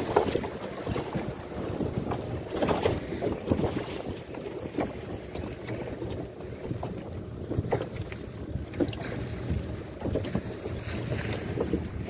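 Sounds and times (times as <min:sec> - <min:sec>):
outboard motor running: 0:00.0 - 0:12.0
water rushing past hull: 0:00.0 - 0:12.0
wind buffeting microphone: 0:00.0 - 0:12.0.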